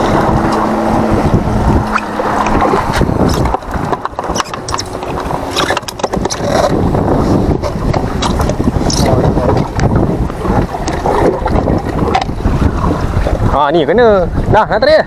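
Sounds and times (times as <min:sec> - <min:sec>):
choppy water: 0:00.0 - 0:15.0
wind buffeting the microphone: 0:00.0 - 0:15.0.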